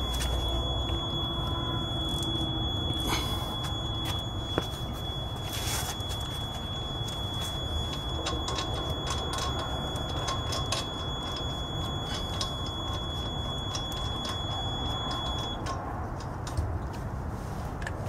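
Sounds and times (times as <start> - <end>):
high-pitched whine: 0.0 - 15.8.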